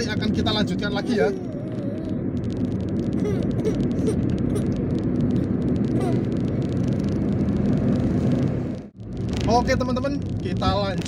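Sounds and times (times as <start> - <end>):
car engine humming: 0.0 - 11.0
tyre road noise: 0.0 - 11.0.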